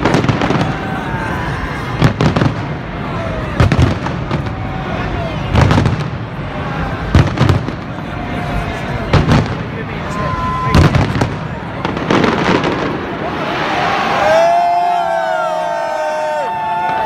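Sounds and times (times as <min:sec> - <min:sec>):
fireworks bangs: 0:00.0 - 0:17.0
large crowd noise: 0:00.0 - 0:17.0.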